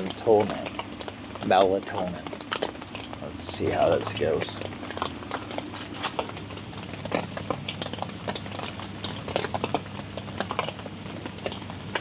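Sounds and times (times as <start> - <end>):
air conditioner hum: 0.0 - 12.0
rain drops on tent fabric: 0.0 - 12.0.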